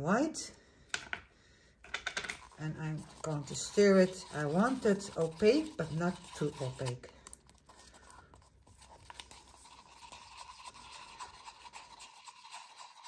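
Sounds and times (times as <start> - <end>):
wooden stick scraping in cup: 1.9 - 13.0.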